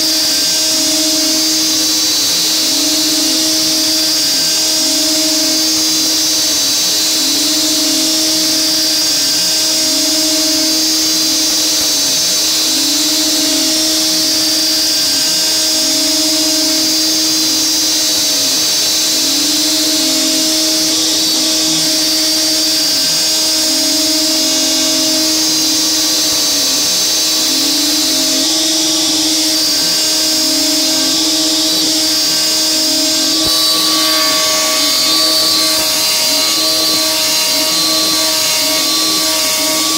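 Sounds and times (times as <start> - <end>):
router cutting aluminium: 0.0 - 39.9
router high whine: 0.0 - 39.9.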